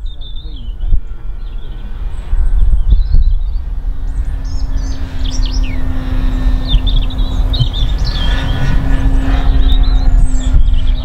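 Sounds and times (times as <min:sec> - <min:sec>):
loud low rumble: 0:00.0 - 0:11.0
model plane motor humming: 0:00.0 - 0:11.0
small birds chirping: 0:00.0 - 0:11.0.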